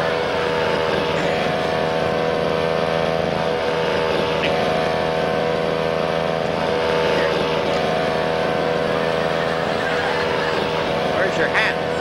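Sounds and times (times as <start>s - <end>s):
motor drone: 0.0s - 12.0s.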